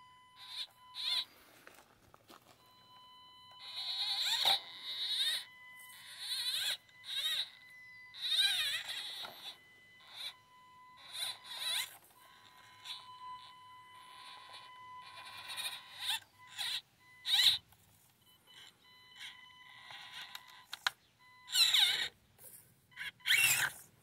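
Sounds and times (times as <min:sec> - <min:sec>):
electric motor and gears whining: 0:03.5 - 0:22.3, 0:23.0 - 0:24.0.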